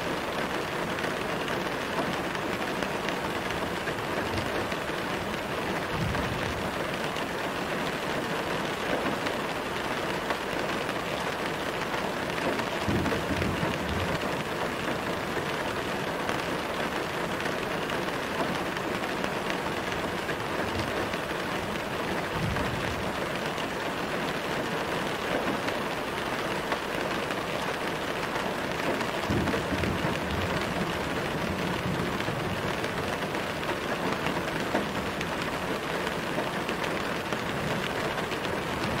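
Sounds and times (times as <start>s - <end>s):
gentle rain falling: 0.0s - 39.0s.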